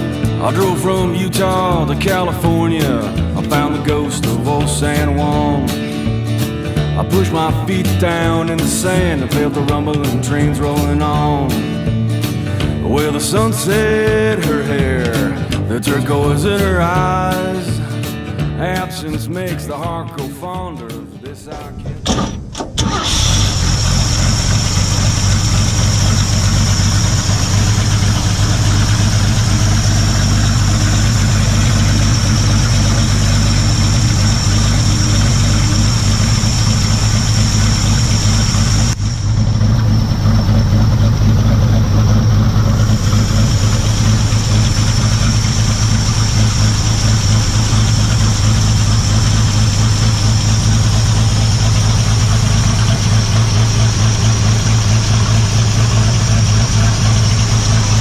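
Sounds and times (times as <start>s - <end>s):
pickup truck engine idling: 0.0s - 19.7s, 21.6s - 58.0s.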